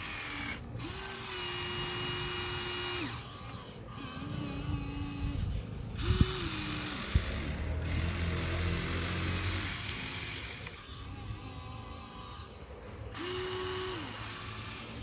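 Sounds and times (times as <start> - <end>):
toy excavator motors whining: 0.0 - 15.0.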